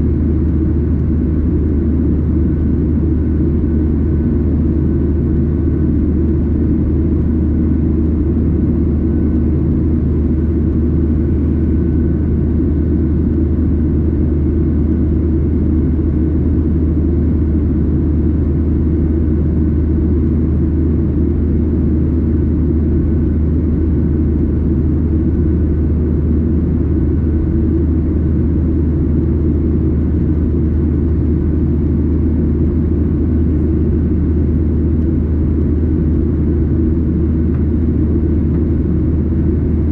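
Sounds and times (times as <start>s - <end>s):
jet cabin drone: 0.0s - 39.9s.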